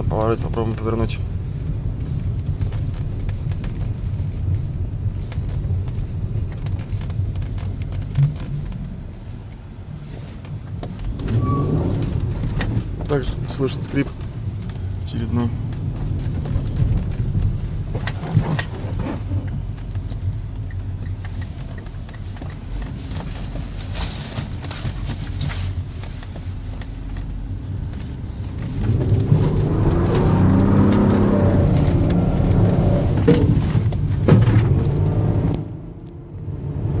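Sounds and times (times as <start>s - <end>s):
car engine and road rumble: 0.0s - 37.0s.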